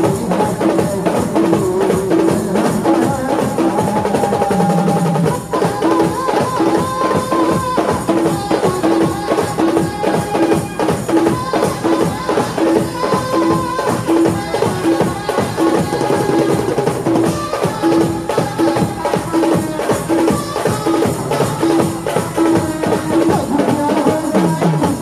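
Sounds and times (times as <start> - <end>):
drums beating fast rhythm: 0.0 - 25.0.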